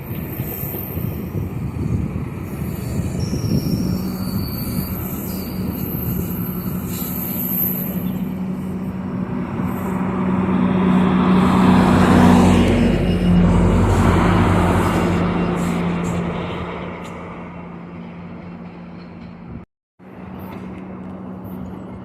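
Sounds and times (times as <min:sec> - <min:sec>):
diesel locomotive engine droning: 0:00.0 - 0:22.0
train rolling noise: 0:00.0 - 0:22.0.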